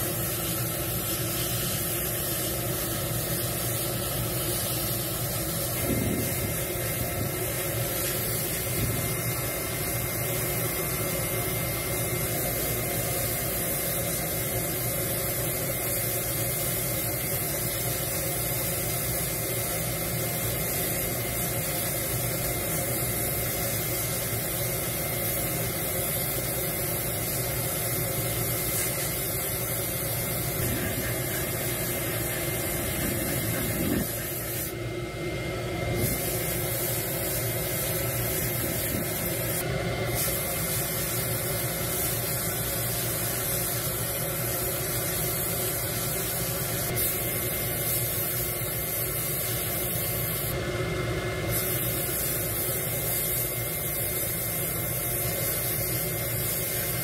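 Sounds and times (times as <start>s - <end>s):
sandblasting gun hissing: 0.0s - 50.7s, 51.3s - 57.0s.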